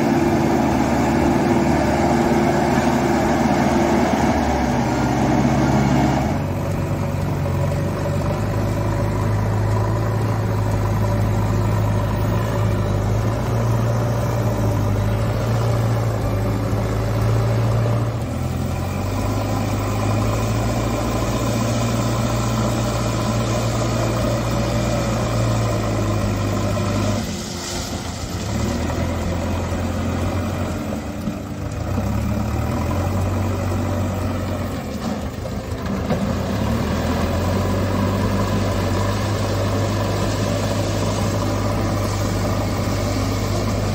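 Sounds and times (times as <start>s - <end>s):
backhoe loader diesel engine: 0.0s - 43.9s
loader pushing gravel: 0.0s - 43.9s
road roller diesel engine: 0.0s - 43.9s.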